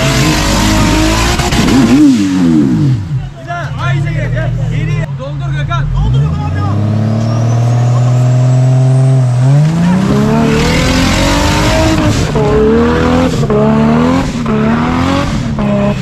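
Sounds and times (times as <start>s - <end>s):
engine revving hard: 0.0s - 3.2s, 6.0s - 16.0s.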